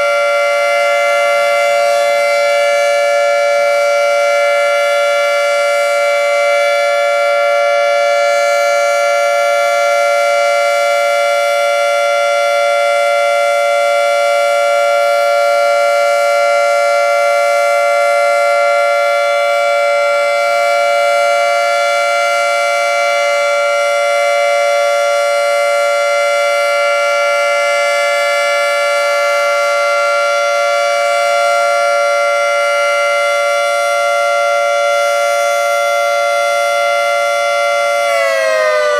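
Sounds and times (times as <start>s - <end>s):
dual-tone warning siren: 0.0s - 38.9s.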